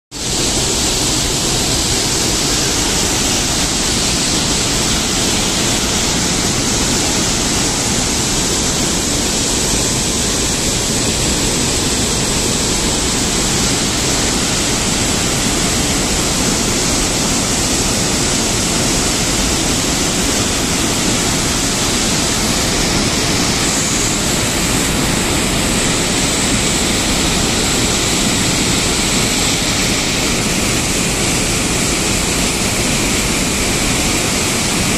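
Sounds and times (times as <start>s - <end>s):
floodwater gushing from spillway: 0.2s - 34.9s.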